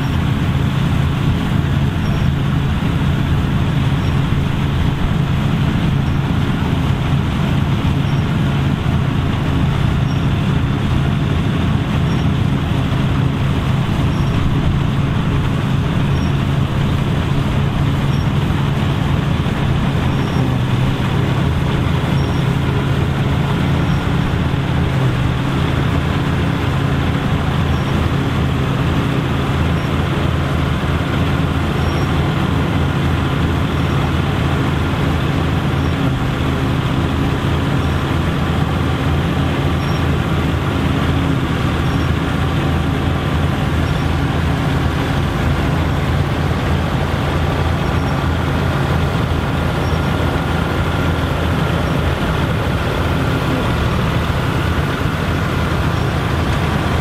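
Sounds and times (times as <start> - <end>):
harvester mechanical noise: 0.0 - 57.0
tractor engine under load: 0.0 - 57.0.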